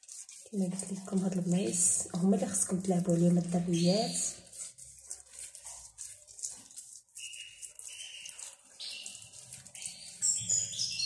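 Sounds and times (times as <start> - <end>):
hands rubbing gritty scrub on skin: 0.0 - 11.0.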